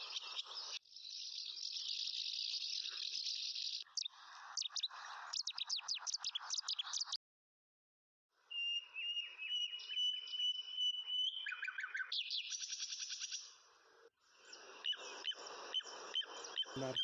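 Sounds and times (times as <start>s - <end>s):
birds chirping and trilling: 0.0s - 7.2s, 8.8s - 17.0s.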